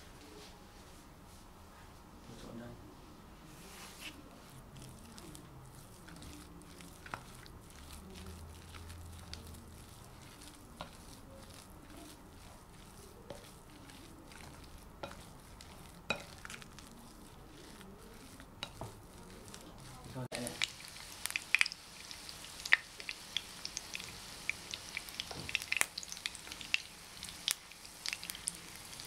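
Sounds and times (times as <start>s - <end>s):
spoon squishing mashed potato: 3.7s - 29.0s.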